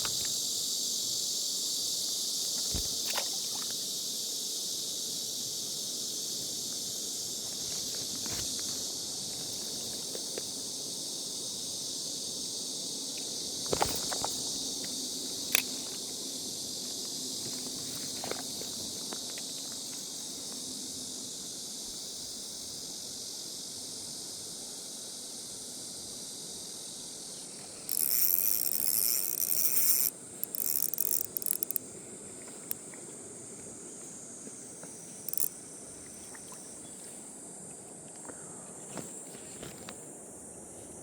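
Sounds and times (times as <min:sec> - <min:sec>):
insects buzzing: 0:00.0 - 0:41.0.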